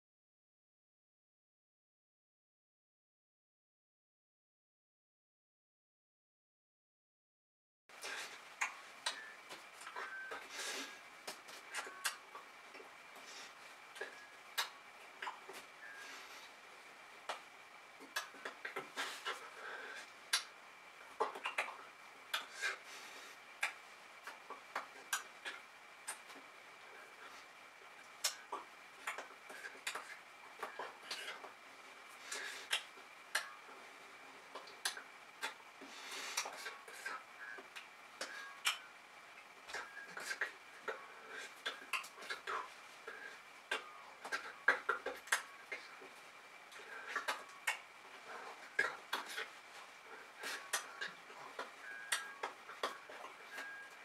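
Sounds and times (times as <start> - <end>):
lip and breath noises: 7.9 - 38.9, 39.6 - 54.0
faint high-pitched whine: 7.9 - 54.0.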